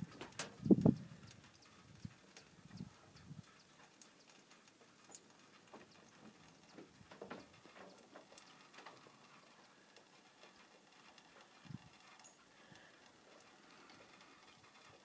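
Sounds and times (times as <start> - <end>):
soft clicks and ticks: 0.0 - 15.0.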